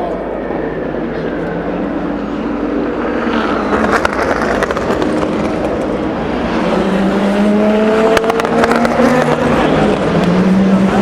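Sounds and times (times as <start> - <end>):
race car engine accelerating: 0.7 - 11.0.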